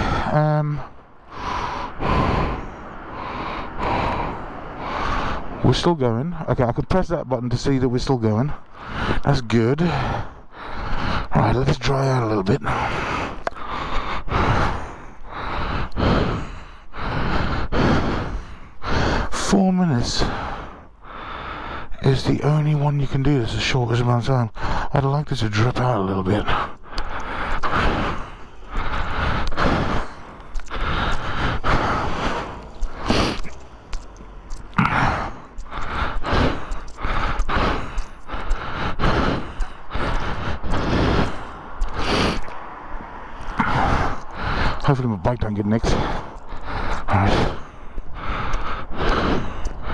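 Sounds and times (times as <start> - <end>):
person breathing hard: 0.0 - 5.7, 8.5 - 9.2, 9.8 - 11.6, 12.5 - 22.0, 24.3 - 49.9.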